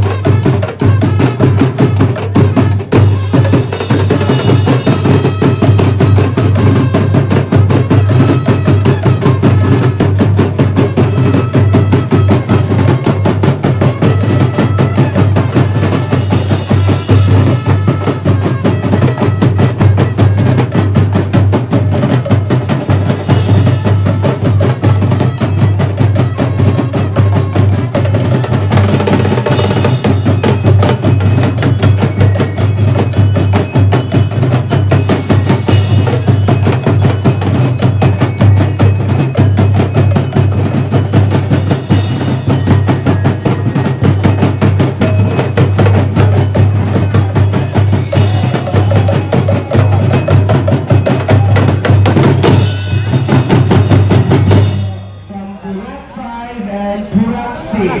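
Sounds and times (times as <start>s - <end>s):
bass drums: 0.0s - 54.9s
snare drums: 0.0s - 55.2s.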